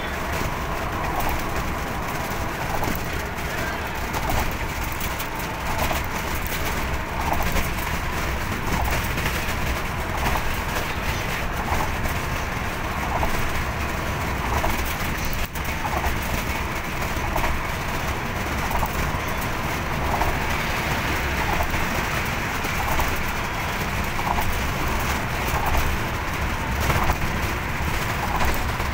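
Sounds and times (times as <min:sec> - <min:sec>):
road and wind noise: 0:00.0 - 0:28.9.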